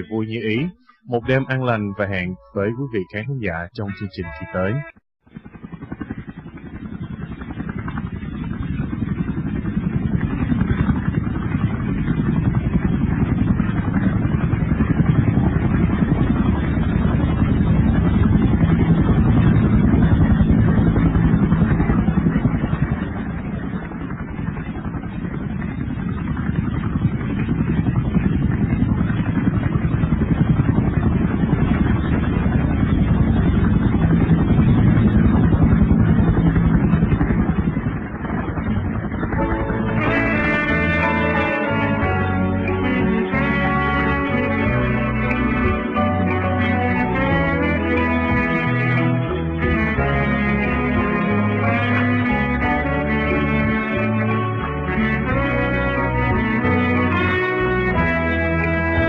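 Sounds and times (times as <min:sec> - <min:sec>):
engine drone with rapid pulsing: 0:04.8 - 0:59.0.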